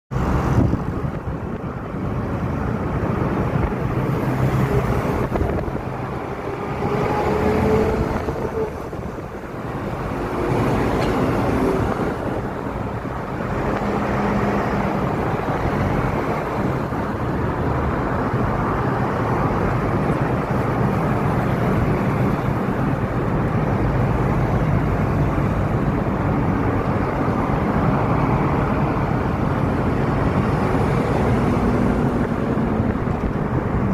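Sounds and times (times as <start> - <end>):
heavy trucks passing: 0.1 - 33.9.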